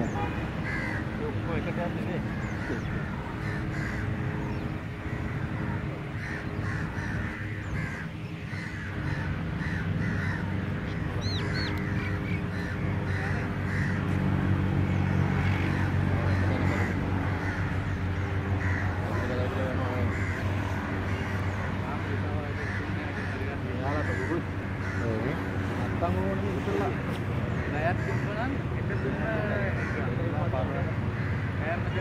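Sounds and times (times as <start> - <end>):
crows cawing: 0.0 - 32.0
low steady drone: 0.0 - 32.0.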